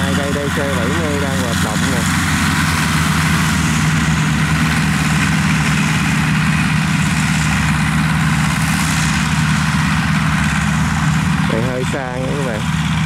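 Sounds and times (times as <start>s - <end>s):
diesel harvester engines humming: 0.0s - 13.0s.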